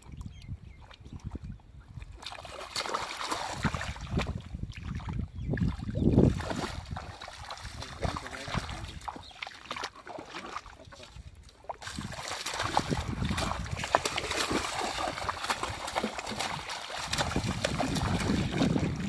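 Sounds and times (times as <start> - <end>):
hands splashing in shallow water: 2.2 - 11.1, 11.8 - 19.0.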